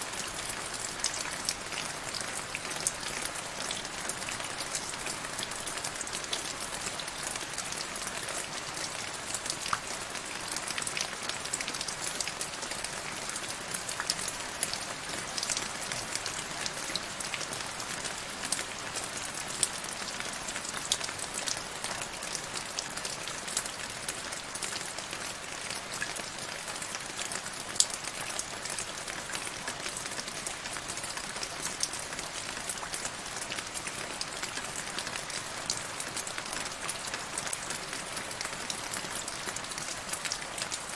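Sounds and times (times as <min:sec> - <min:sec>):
rain falling into a puddle: 0:00.0 - 0:40.9.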